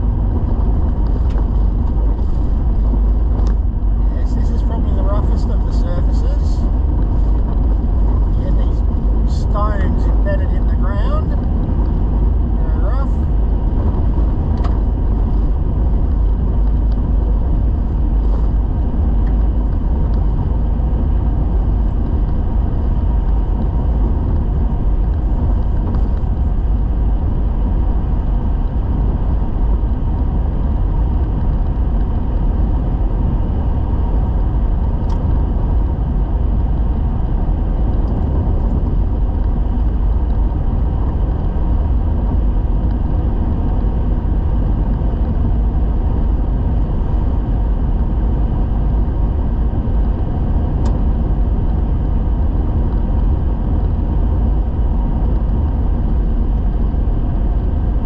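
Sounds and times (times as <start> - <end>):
vehicle driving on gravel road: 0.0 - 58.0.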